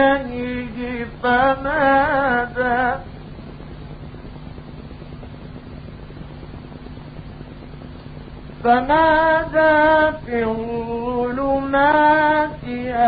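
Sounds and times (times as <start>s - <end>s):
recording hiss and hum: 0.0s - 13.0s.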